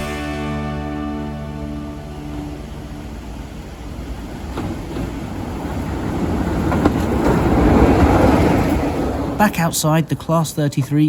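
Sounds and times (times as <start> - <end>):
diesel locomotive engine: 0.0 - 11.0
train wheels on rails: 1.8 - 11.0.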